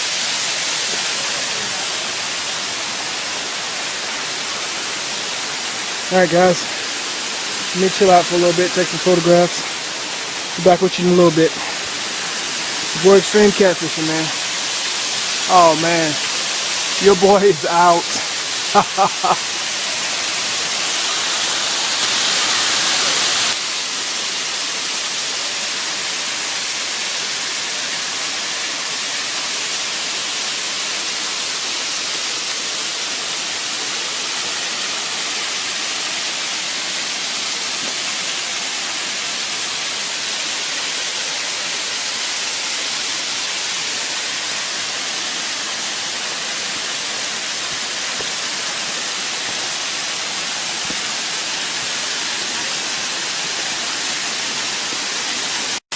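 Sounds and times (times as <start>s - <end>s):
waterfall rushing over rock: 0.0s - 55.9s.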